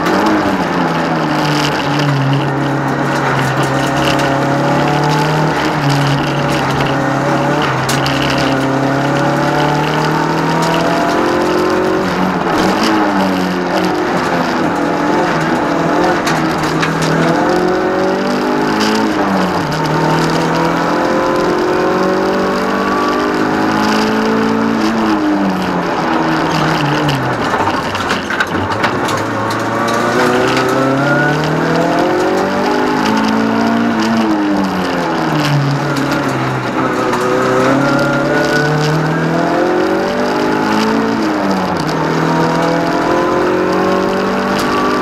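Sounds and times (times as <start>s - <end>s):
car engine revving: 0.0s - 45.0s
road and tyre noise: 0.0s - 45.0s.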